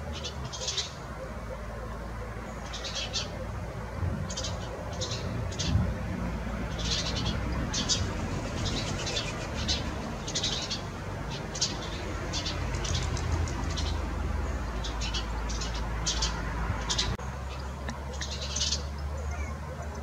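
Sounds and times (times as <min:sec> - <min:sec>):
sparrow chirping: 0:00.0 - 0:06.0, 0:06.6 - 0:20.0.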